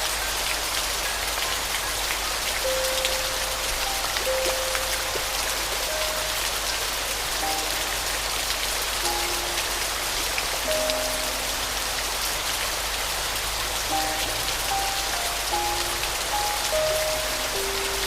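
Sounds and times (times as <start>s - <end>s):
steady rain: 0.0s - 18.0s
slow piano melody: 2.2s - 18.0s.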